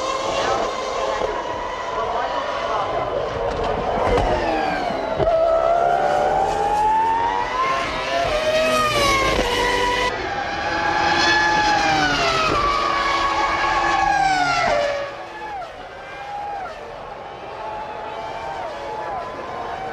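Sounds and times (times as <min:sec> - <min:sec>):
racing car engines revving: 0:00.0 - 0:19.9.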